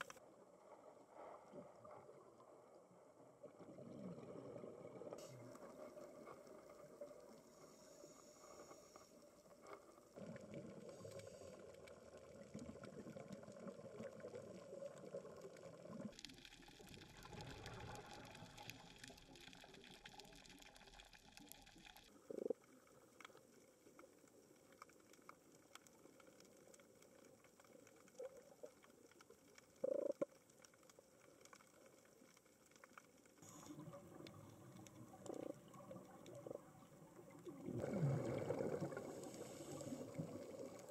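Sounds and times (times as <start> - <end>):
muffled underwater sound: 0.0 - 24.6, 25.6 - 40.9.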